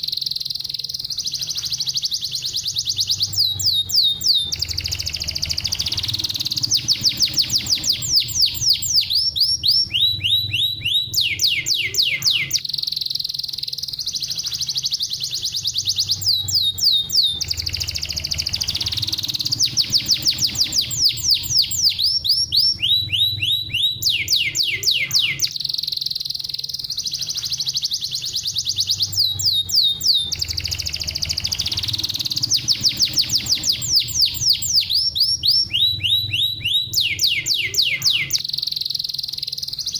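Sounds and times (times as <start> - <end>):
canary singing trills: 0.0 - 39.9
faint low hum: 0.0 - 39.9.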